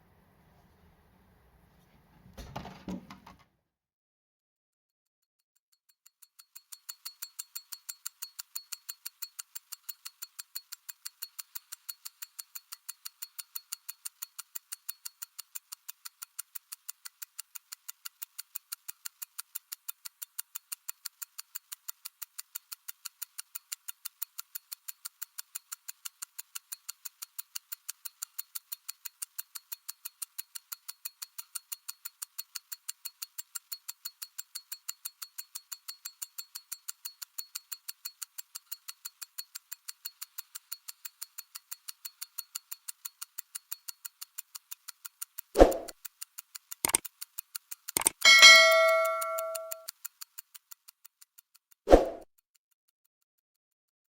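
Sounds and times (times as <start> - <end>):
mechanical watch ticking: 5.8 - 52.0.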